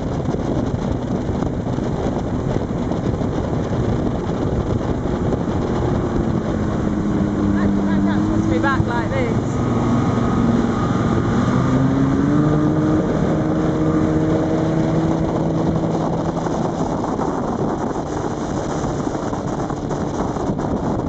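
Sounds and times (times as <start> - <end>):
powerboat engine drone: 0.0 - 21.0
wind on microphone: 0.0 - 21.0.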